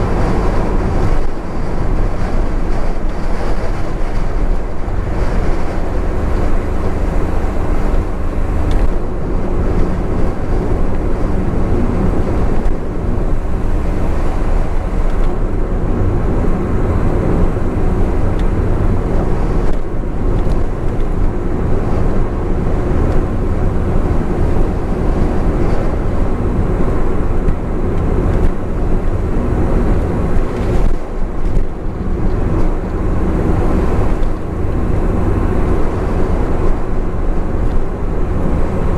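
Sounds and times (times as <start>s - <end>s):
car engine droning: 0.0s - 38.9s
tyre and road roar: 0.0s - 38.9s
wind noise: 0.0s - 38.9s.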